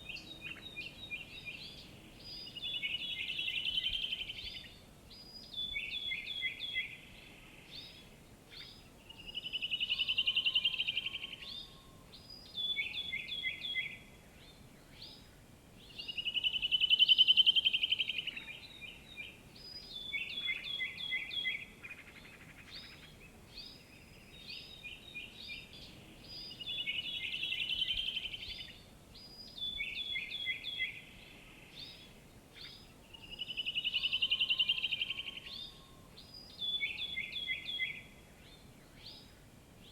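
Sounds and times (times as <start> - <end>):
background hiss: 0.0 - 39.9
bird singing buzzy trill: 0.0 - 39.9.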